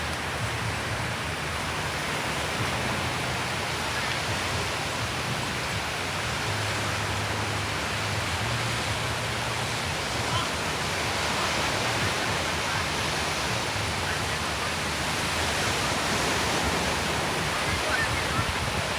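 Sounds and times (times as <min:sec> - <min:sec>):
sea surf rushing: 0:00.0 - 0:18.9.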